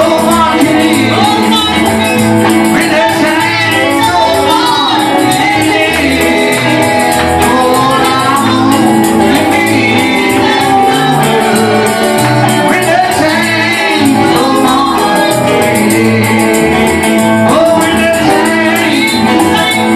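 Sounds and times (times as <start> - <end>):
bass line: 0.0 - 19.9
gospel singing over a band: 0.0 - 19.9
high percussion beat: 0.0 - 19.9.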